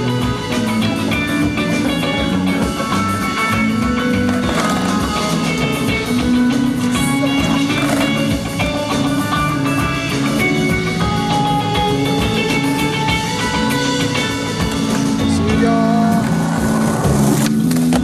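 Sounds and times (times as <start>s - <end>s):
background music with drum beat: 0.0s - 18.0s.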